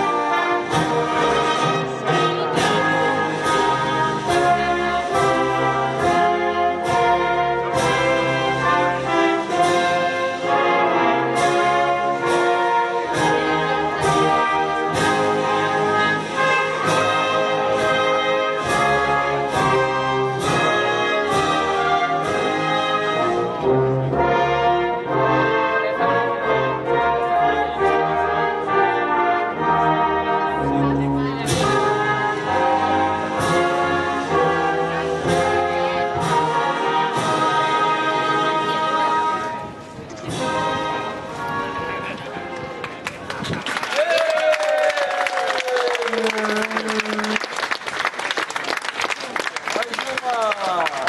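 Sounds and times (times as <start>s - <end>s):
orchestral brass chords: 0.0s - 42.9s.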